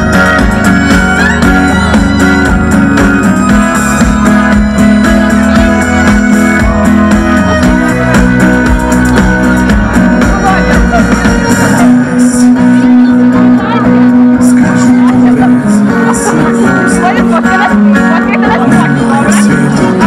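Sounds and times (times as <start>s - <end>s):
acoustic guitar: 0.0s - 20.0s
bass guitar: 0.0s - 20.0s
steady beat: 0.0s - 20.0s
violin: 0.0s - 20.0s.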